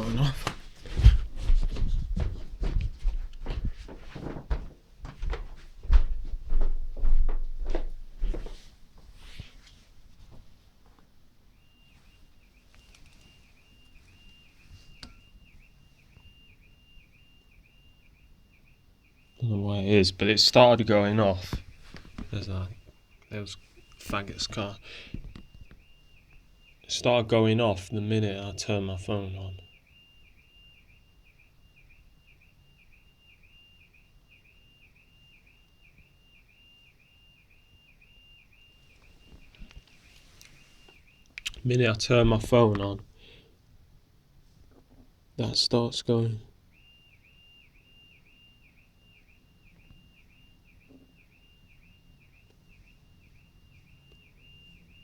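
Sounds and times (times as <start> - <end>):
distant car alarm: 0.0 - 55.0.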